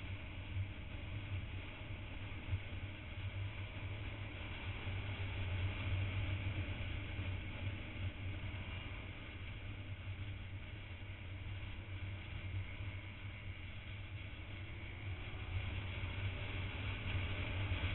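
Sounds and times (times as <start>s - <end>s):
motorcycle engine droning: 0.0s - 17.9s.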